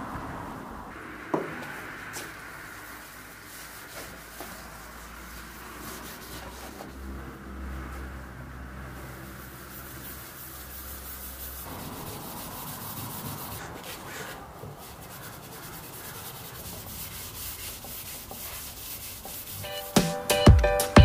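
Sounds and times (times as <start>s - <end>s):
pad scrubbing wood: 1.4s - 8.0s, 8.8s - 19.7s.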